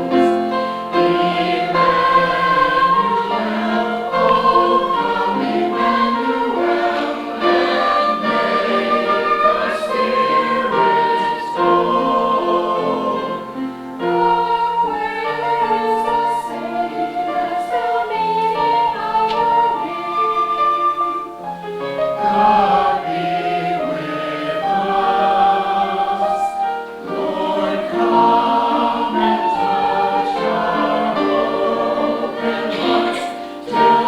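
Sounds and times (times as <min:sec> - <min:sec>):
choir singing choral piece: 0:00.0 - 0:34.0.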